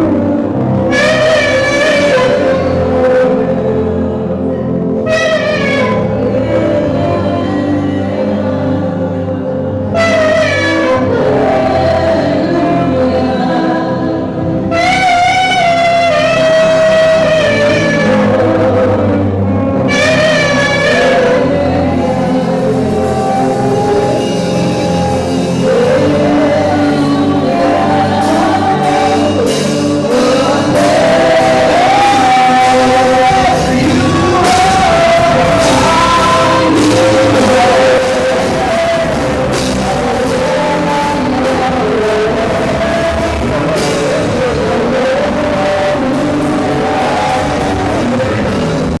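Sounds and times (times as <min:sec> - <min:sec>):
gospel instrumental backing with beat: 0:00.0 - 0:49.0
person singing: 0:00.0 - 0:49.0.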